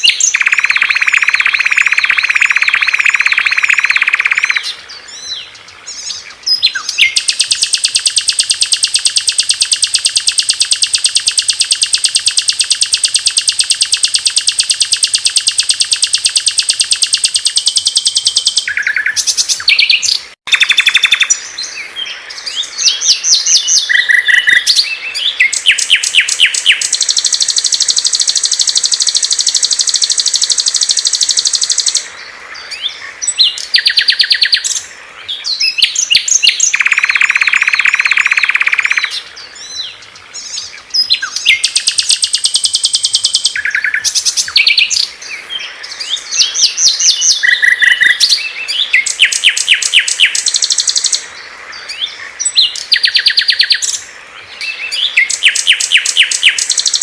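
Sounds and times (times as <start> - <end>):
high bird trill: 0.0 - 51.3, 51.9 - 57.0
songbirds chirping and whistling: 0.0 - 57.0.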